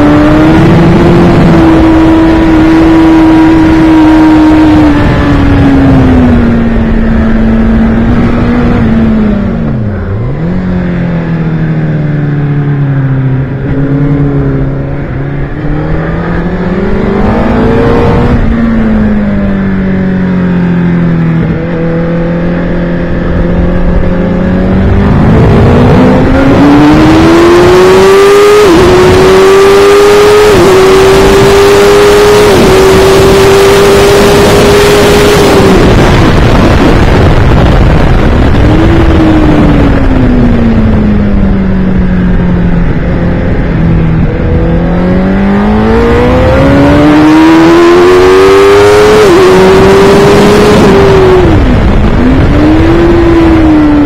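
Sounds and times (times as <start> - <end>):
motorcycle engine: 0.0 - 54.0
wind rushing over microphone: 0.0 - 54.0.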